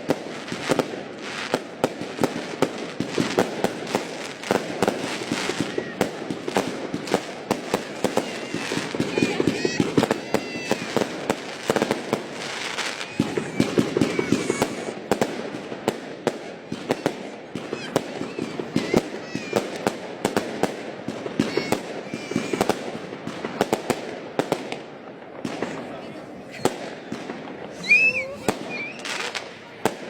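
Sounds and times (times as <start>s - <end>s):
fireworks bangs and pops: 0.0s - 30.0s
fireworks crackle: 0.0s - 30.0s.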